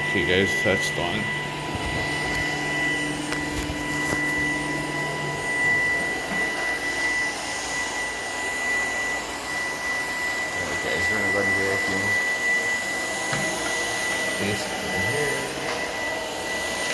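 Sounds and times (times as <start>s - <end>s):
cordless vacuum motor whining: 0.0s - 16.9s.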